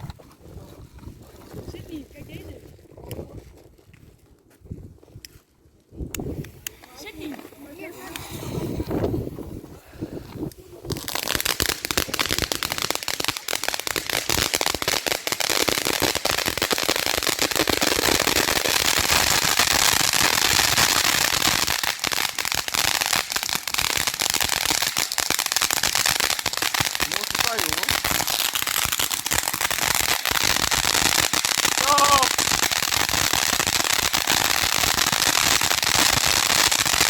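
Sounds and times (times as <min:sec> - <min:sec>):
ground firework crackling: 0:06.2 - 0:37.0.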